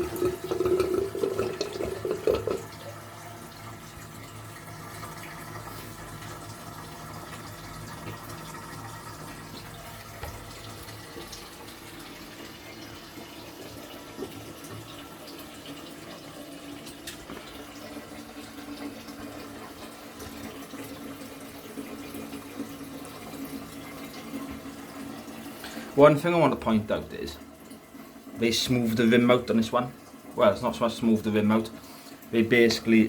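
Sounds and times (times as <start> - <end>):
toilet cistern refilling: 0.0 - 33.0.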